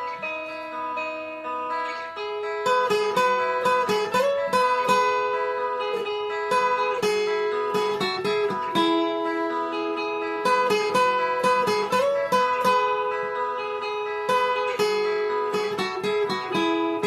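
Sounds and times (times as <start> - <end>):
plucked acoustic guitar melody: 0.0 - 17.0.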